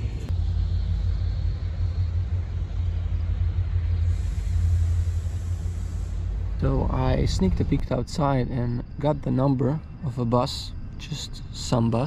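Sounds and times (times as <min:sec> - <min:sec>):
large vehicle engine rumbling: 0:00.0 - 0:12.0.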